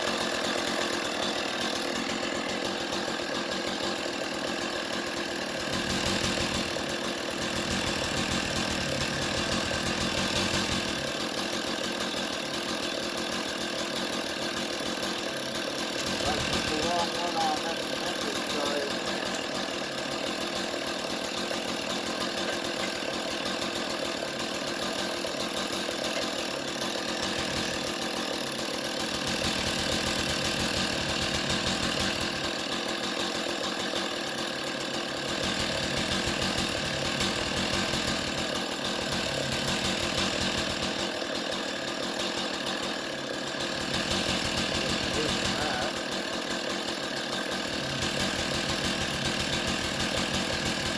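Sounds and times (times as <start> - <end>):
chainsaw cutting a log: 0.0 - 50.9.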